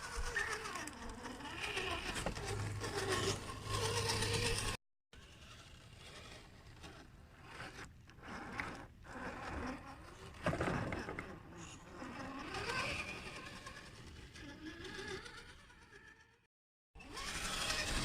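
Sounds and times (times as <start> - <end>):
electric motor whining: 0.0 - 16.0, 17.0 - 18.0.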